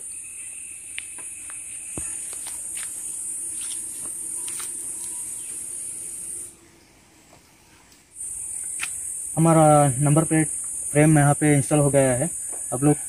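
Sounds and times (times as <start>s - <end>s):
high-pitched insect chirring: 0.0s - 7.0s, 8.1s - 13.0s.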